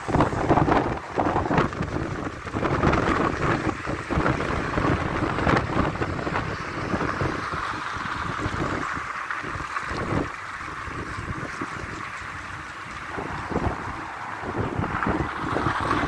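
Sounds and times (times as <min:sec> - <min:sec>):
car passing close: 0:00.0 - 0:16.0
road traffic: 0:00.0 - 0:16.0
wind buffeting microphone: 0:00.0 - 0:16.0.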